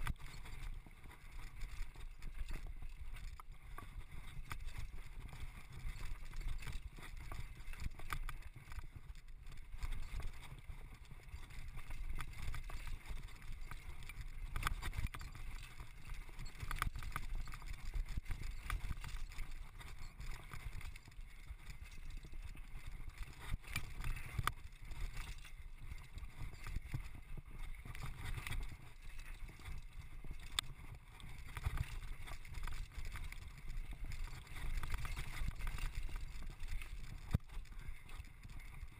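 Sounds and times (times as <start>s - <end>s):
bike clicks and rattles: 0.0s - 38.9s
wind and ground rumble: 0.0s - 38.9s.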